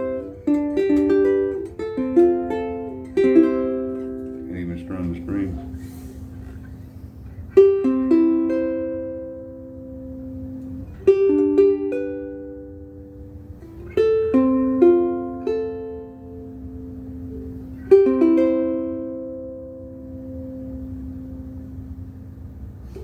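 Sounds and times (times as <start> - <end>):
fingerpicked ukulele: 0.0 - 22.1, 22.8 - 23.0.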